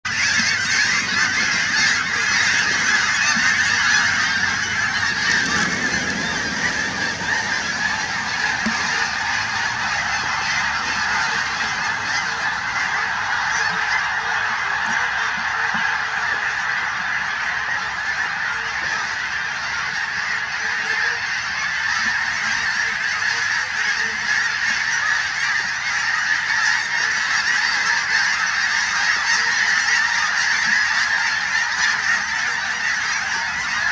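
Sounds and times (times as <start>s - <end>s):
flock of geese honking: 0.0s - 33.9s.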